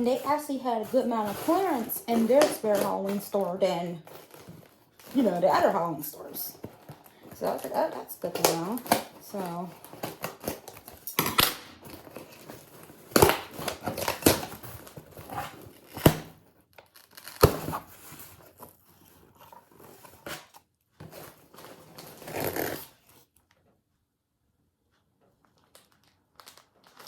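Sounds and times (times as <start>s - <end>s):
packaging crinkling and tearing: 1.2s - 23.5s, 25.4s - 27.0s.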